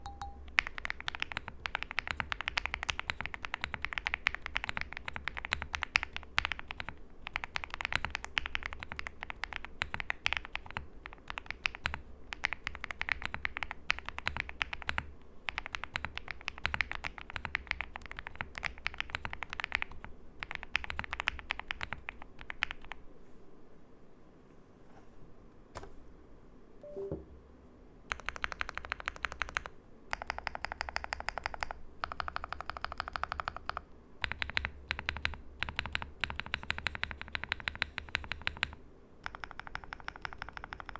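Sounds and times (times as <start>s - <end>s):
mechanical keyboard typing: 0.0s - 23.0s, 28.1s - 40.9s.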